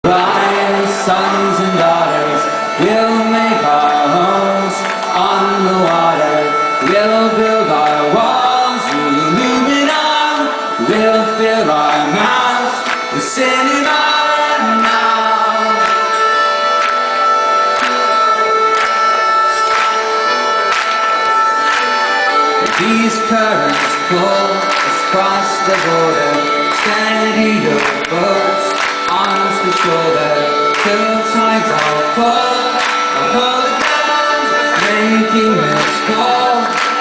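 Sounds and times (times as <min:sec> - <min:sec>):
high drone: 0:00.0 - 0:37.0
sliding melody: 0:00.0 - 0:37.0.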